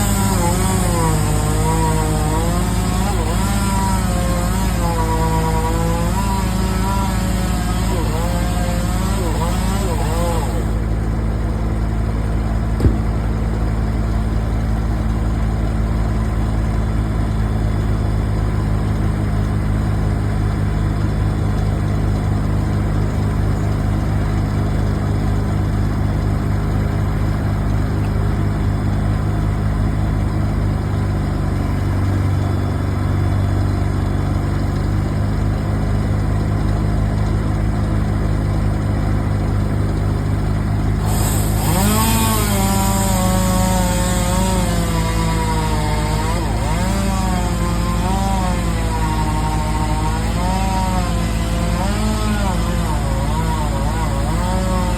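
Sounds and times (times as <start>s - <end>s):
large engine idling: 0.0s - 54.9s.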